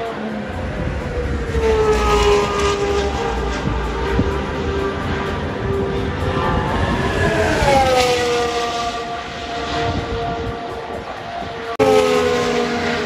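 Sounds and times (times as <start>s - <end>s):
racing car engines running: 0.0s - 13.0s.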